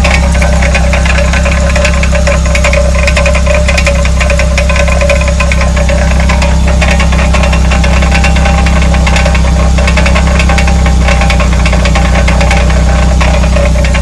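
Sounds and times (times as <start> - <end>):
vehicle running drone: 0.0 - 14.0
wheel hub rattling: 0.0 - 14.0.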